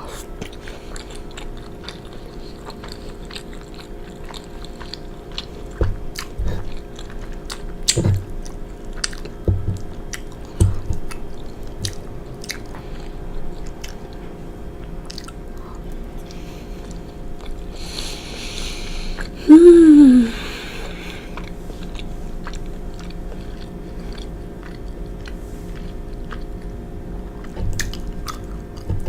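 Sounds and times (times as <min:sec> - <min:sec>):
chewing pasta with wet mouth clicks: 0:00.4 - 0:18.1, 0:21.0 - 0:29.0.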